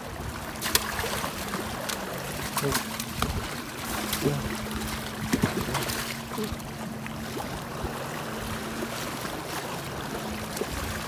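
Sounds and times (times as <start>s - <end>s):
sea water splashing on boulders: 0.0s - 11.0s.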